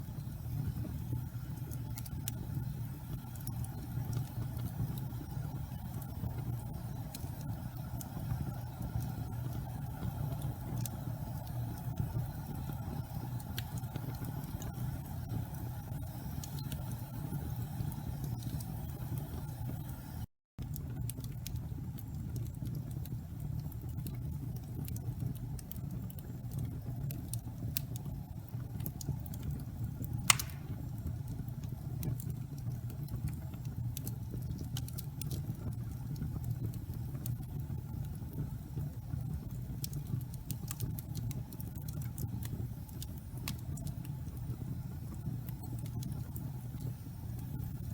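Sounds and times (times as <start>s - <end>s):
fire crackling: 0.0s - 47.9s
fire rumbling: 0.0s - 47.9s
fire popping: 0.1s - 47.9s.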